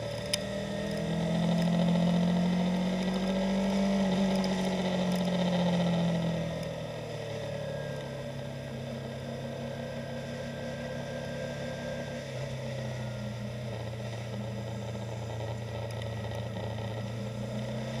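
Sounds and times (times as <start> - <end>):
motorcycle engine slowing: 0.0 - 18.0.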